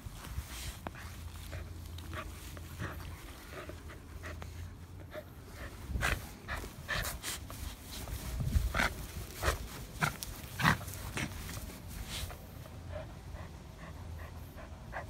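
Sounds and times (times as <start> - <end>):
dogs panting and snuffling: 0.0 - 15.0.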